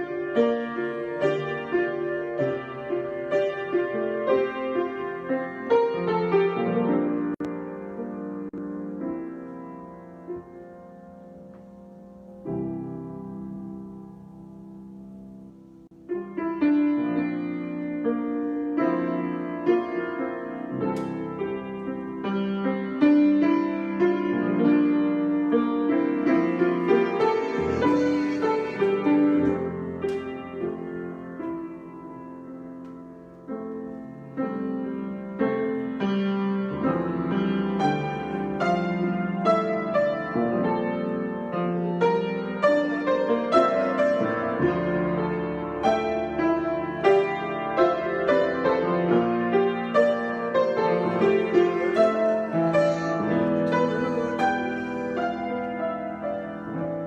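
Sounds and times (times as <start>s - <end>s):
solo piano improvisation: 0.0s - 57.0s.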